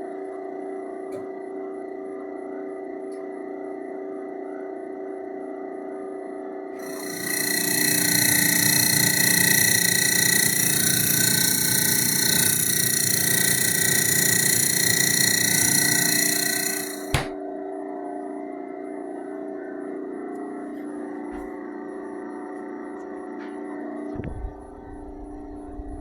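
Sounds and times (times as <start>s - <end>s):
refrigerator mechanical noise: 0.2s - 26.0s.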